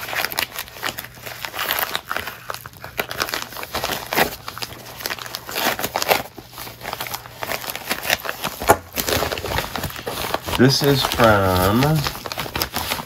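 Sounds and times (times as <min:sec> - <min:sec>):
plastic mailer rustling: 0:00.0 - 0:13.0.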